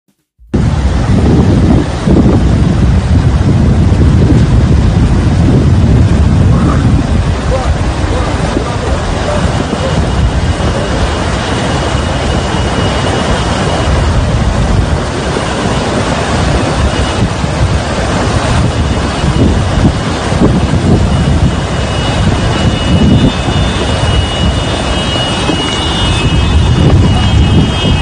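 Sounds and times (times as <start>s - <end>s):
torrent of water rushing: 0.5s - 28.0s
wind buffeting microphone: 0.5s - 28.0s.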